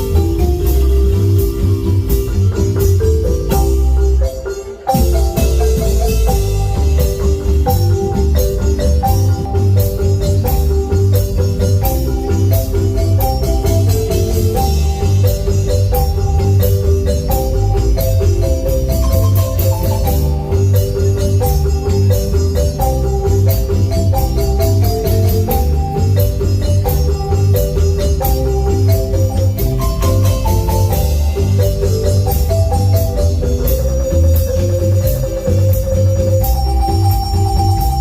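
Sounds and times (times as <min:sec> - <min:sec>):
marimba band playing: 0:00.0 - 0:38.0.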